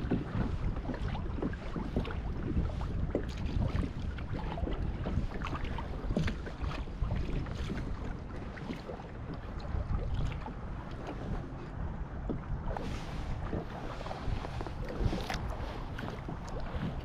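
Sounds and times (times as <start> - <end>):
water lapping against kayak hull: 0.0 - 17.0
wind buffeting microphone: 0.0 - 17.0.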